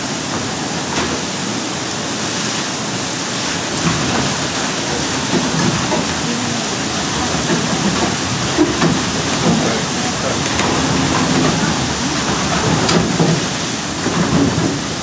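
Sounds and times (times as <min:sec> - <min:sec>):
sawmill running: 0:00.0 - 0:15.0.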